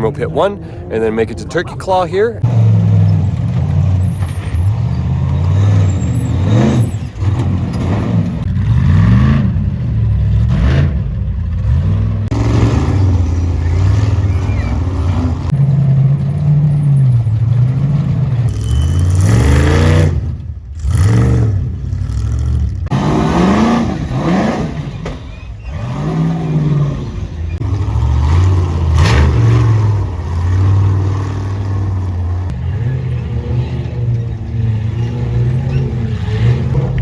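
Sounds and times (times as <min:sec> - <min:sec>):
buggy engine revving: 0:00.0 - 0:37.0.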